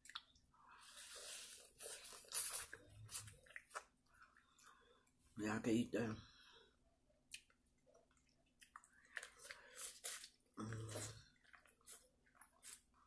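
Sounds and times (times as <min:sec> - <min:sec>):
chewing and lip-smacking: 0:00.0 - 0:05.2, 0:07.2 - 0:13.0.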